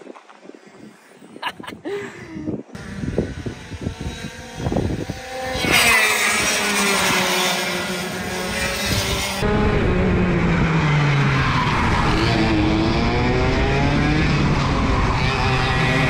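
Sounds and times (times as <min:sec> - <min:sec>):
go-kart engines passing by: 0:02.8 - 0:16.0.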